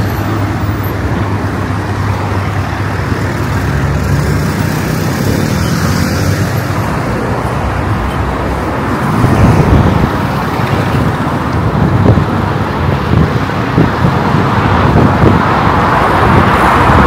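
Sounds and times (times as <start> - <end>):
cars driving by: 0.0 - 17.0
vehicle tyre noise: 0.0 - 17.0.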